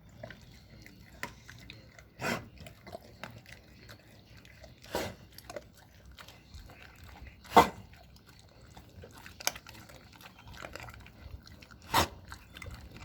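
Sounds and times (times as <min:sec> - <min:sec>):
dog chewing meat and bone: 0:00.0 - 0:13.0.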